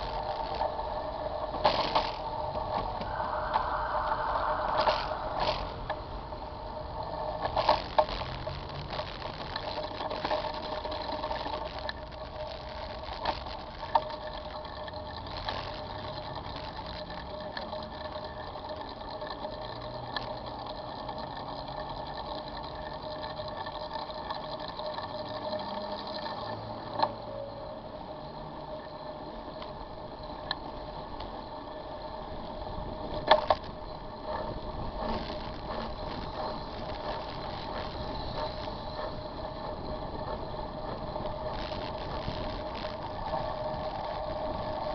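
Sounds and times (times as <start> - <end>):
bicycle whine with rattling: 0.0 - 44.9.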